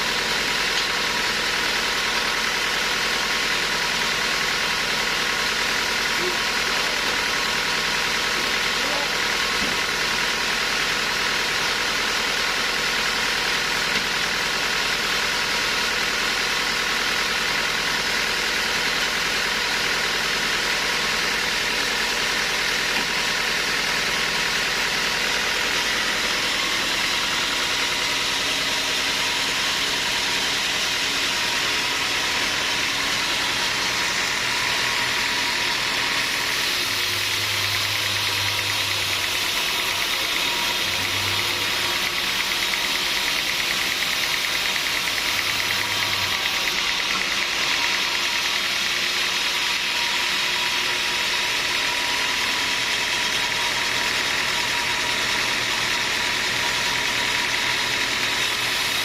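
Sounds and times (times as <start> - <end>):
sawmill machinery hissing: 0.0 - 59.0.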